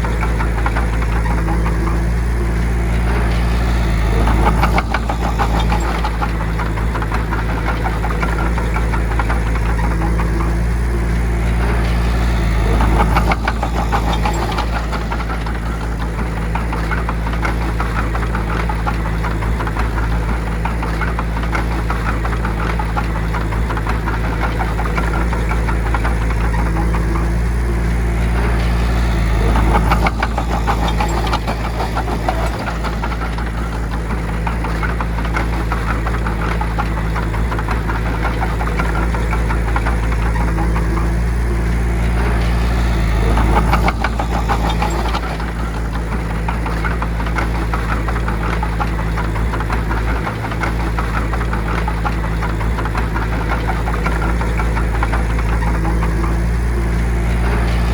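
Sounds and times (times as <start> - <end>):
heavy machine diesel engine: 0.0 - 57.9.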